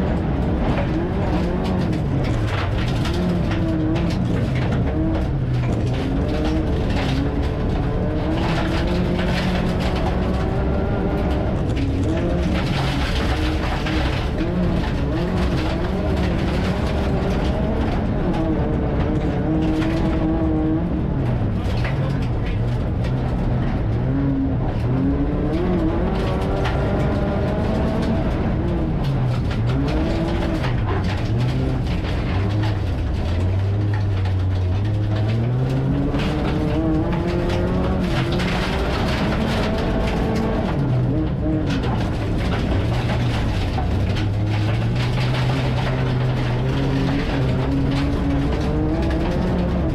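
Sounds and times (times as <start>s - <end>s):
gravel and tyre clatter: 0.0s - 49.9s
race car engine revving: 0.0s - 49.9s.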